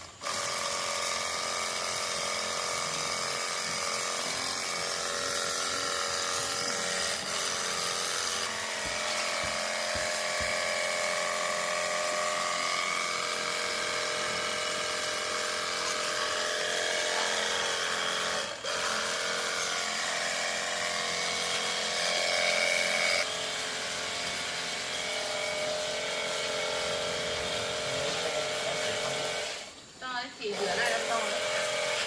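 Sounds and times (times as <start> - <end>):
small electric motor whirring: 0.0 - 32.0.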